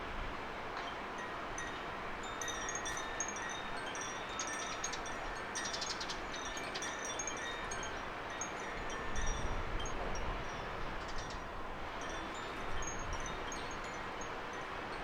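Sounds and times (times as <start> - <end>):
wind rustling leaves: 0.0 - 15.0.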